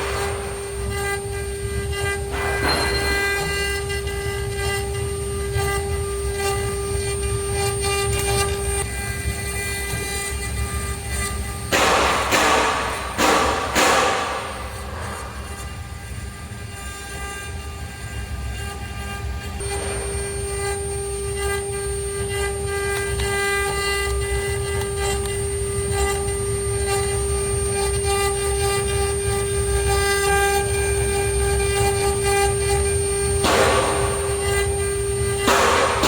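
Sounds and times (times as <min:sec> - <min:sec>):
router spindle whine: 0:00.0 - 0:11.7, 0:12.6 - 0:36.0.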